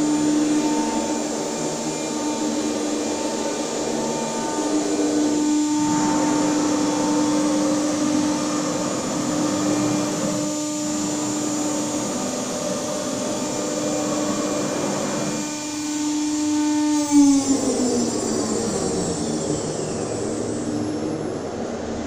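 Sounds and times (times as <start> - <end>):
cnc router whining: 0.0 - 22.0.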